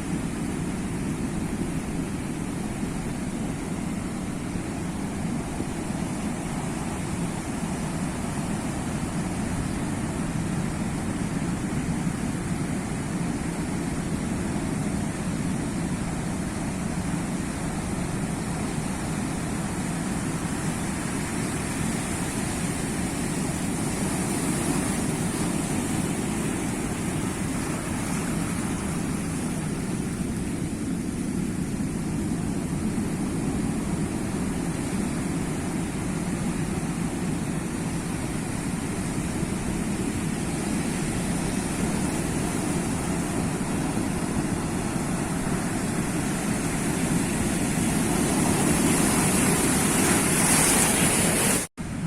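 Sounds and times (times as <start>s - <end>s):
sea waves washing: 0.0s - 52.0s.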